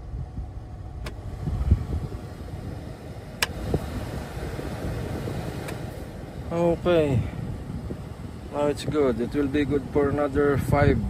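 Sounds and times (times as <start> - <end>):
blower fan rushing air: 0.0 - 11.0.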